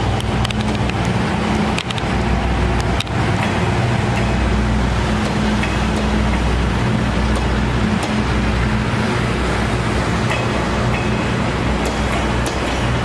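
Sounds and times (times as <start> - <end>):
locomotive diesel engine drone: 0.0 - 13.0.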